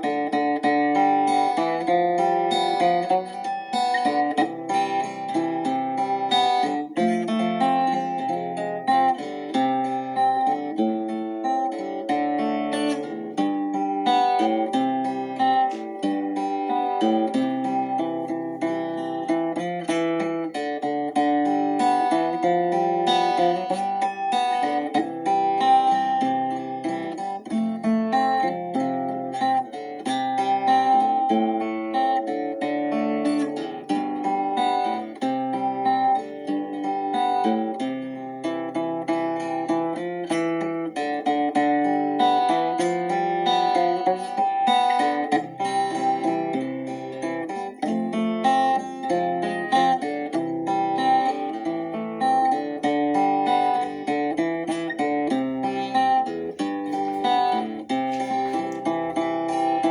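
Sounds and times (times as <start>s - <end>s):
acoustic guitar picking: 0.0s - 59.9s.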